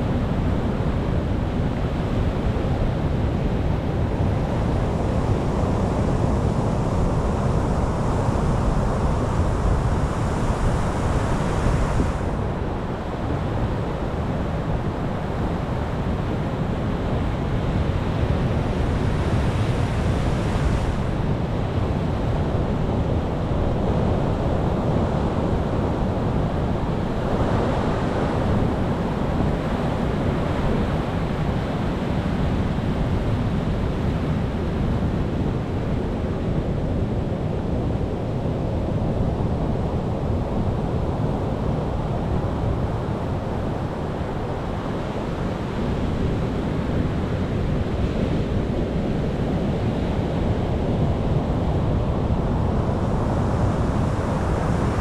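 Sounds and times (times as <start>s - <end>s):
ocean waves washing onto shore: 0.1s - 37.2s, 37.8s - 55.0s.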